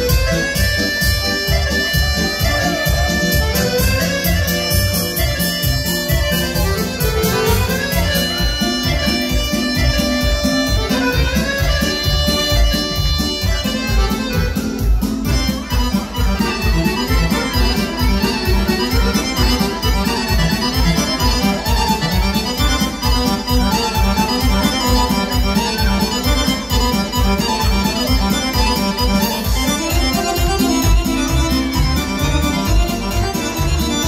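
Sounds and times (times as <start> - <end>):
folk dance music with accordion: 0.0 - 34.0.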